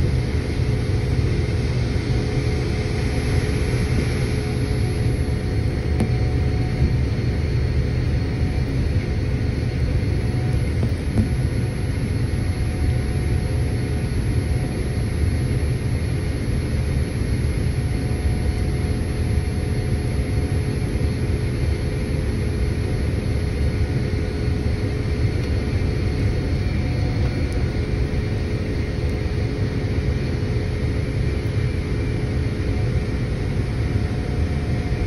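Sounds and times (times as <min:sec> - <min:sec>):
faint constant whines: 0:00.0 - 0:35.0
jet engine cabin rumble: 0:00.0 - 0:35.0.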